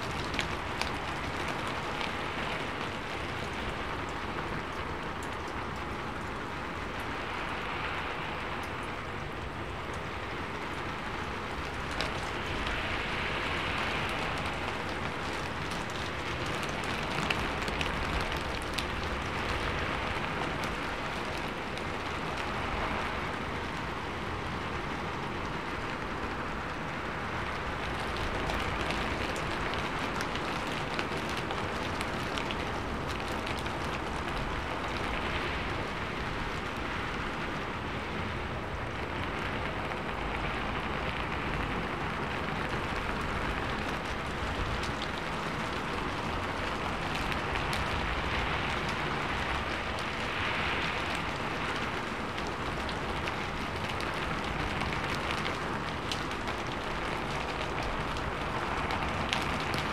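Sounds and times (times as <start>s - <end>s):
rain on a metal roof: 0.0s - 59.9s.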